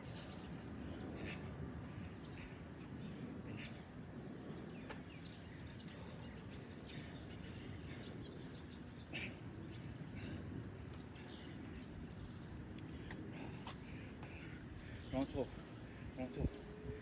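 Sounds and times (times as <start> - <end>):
low background noise: 0.0 - 17.0
small birds chirping: 0.0 - 17.0.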